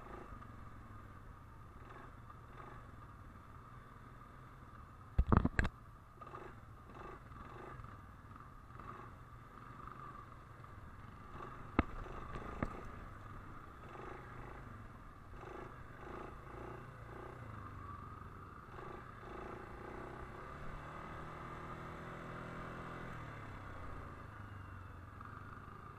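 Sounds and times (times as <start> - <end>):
quad engine running: 0.0 - 25.9.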